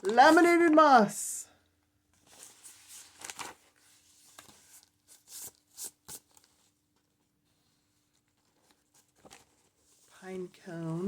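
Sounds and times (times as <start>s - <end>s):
paper pages rustling: 0.0s - 0.9s, 2.1s - 10.2s.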